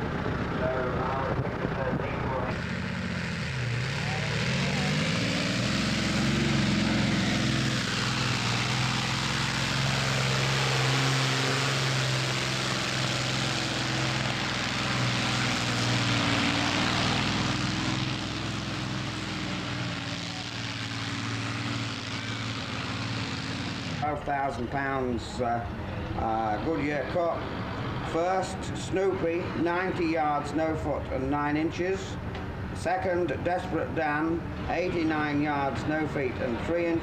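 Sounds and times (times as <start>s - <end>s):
tractor engine revving: 0.0s - 37.0s.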